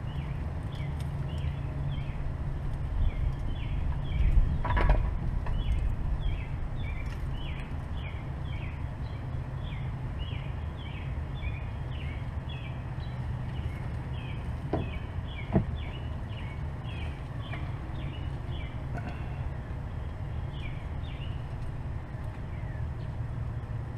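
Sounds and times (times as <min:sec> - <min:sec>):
bird chirping: 0:00.0 - 0:02.3, 0:03.0 - 0:04.8, 0:05.4 - 0:23.7
low background rumble: 0:00.0 - 0:23.9.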